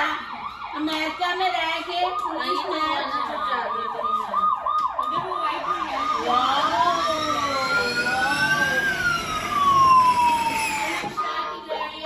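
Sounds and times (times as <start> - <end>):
toy police siren: 0.1 - 12.0.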